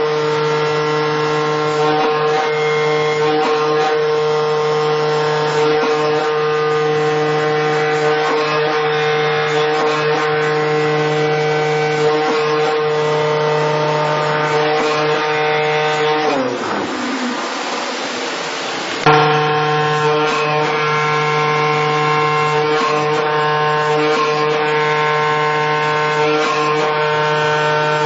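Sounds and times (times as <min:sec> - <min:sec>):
cutting machine humming: 0:00.0 - 0:28.0.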